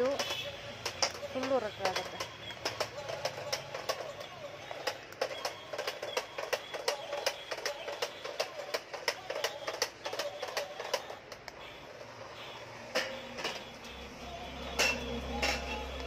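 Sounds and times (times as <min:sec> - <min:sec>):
toy car clattering on tiles: 0:00.0 - 0:12.1, 0:12.9 - 0:14.0, 0:14.6 - 0:16.0.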